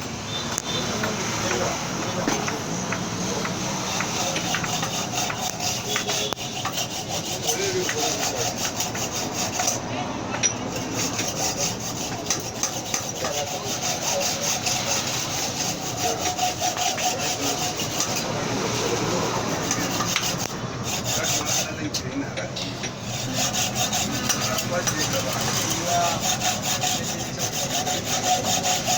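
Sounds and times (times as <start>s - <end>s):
hand tool scraping metal: 0.0s - 28.9s.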